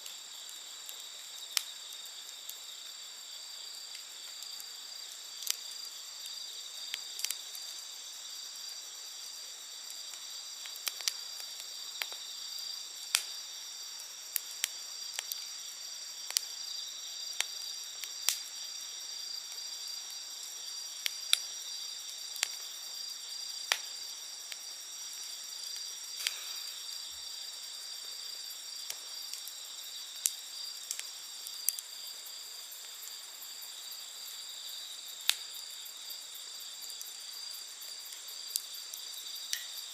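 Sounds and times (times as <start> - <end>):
campfire crackling: 0.0 - 39.9
night insects trilling: 0.0 - 39.9.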